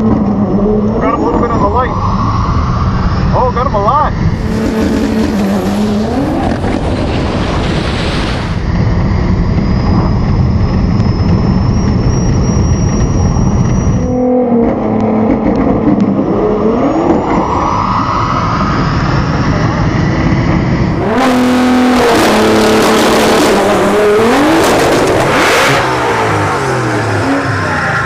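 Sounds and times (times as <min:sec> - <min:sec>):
car engine revving: 0:00.0 - 0:28.0
high whine: 0:00.0 - 0:28.0
wind and road noise: 0:00.0 - 0:28.0.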